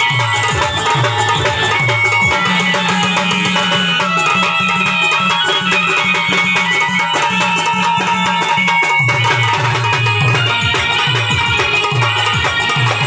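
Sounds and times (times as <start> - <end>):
fast hand drum beat: 0.0 - 13.0
folk music: 0.0 - 13.0.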